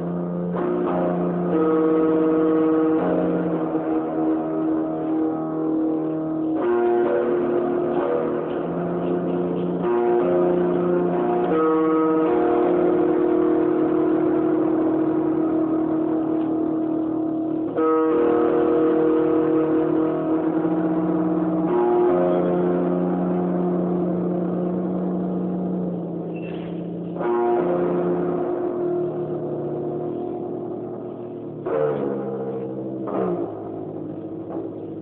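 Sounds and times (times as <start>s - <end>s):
droning chords music: 0.0s - 35.0s.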